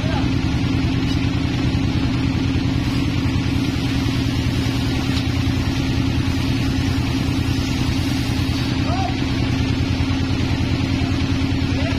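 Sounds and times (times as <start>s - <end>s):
sawmill machinery humming: 0.0s - 11.9s.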